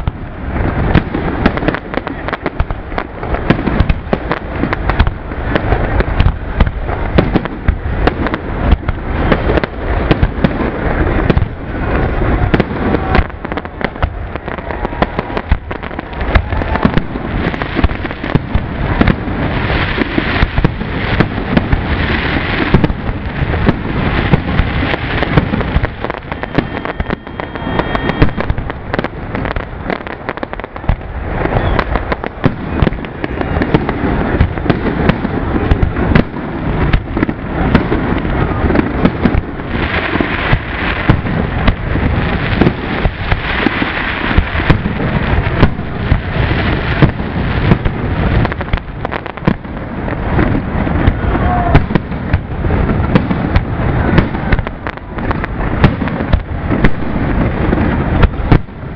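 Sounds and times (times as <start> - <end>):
fireworks barrage: 0.0 - 58.9.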